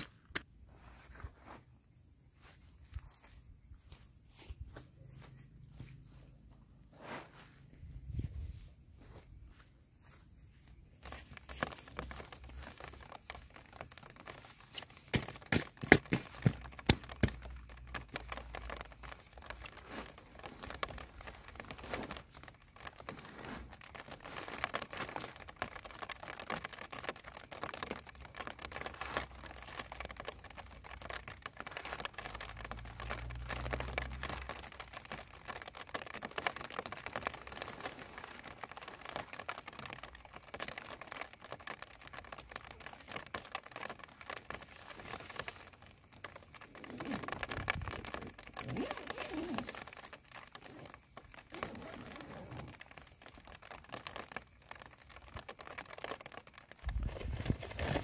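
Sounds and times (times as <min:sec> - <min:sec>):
tent fabric rustling: 0:00.0 - 0:58.0.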